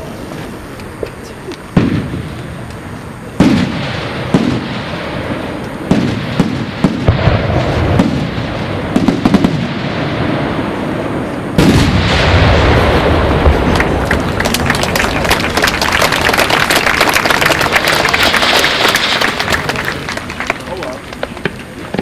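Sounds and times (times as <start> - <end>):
fireworks crackling and fizzing: 0.0 - 22.0
firework shells bursting: 0.8 - 22.0.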